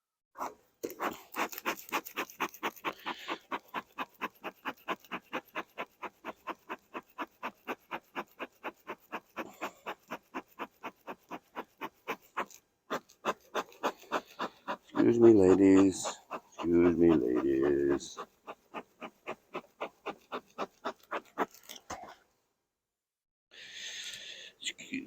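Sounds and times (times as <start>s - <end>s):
rapid panting: 0.4s - 21.9s.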